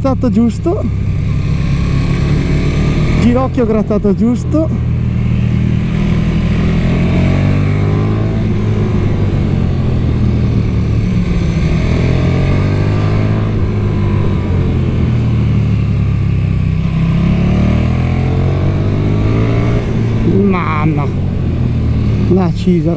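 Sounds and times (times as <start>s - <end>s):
motorcycle engine accelerating: 0.0s - 22.9s.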